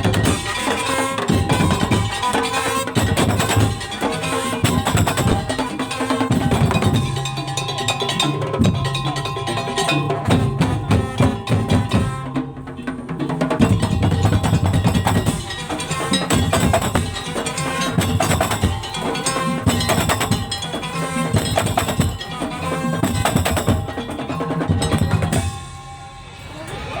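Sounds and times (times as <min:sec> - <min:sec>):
slit drums and drums playing: 0:00.0 - 0:27.0.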